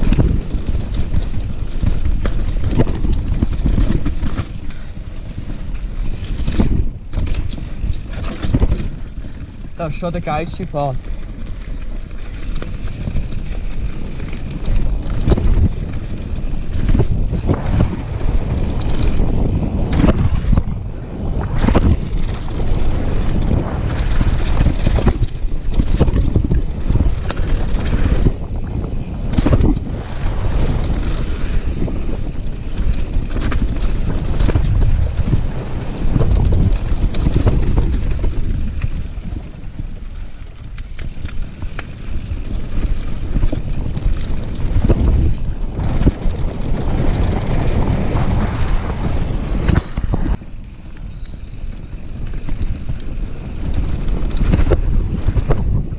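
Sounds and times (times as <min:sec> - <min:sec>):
bike knocking and rattling: 0:00.0 - 0:55.9
tyres rolling over gravel: 0:00.0 - 0:55.9
wind on microphone: 0:00.0 - 0:55.9.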